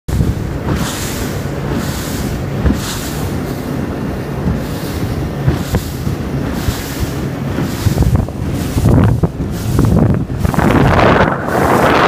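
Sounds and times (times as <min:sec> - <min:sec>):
hull knocking on waves: 0:00.1 - 0:12.0
outboard engine drone: 0:00.1 - 0:12.0
wind noise on microphone: 0:00.1 - 0:12.0.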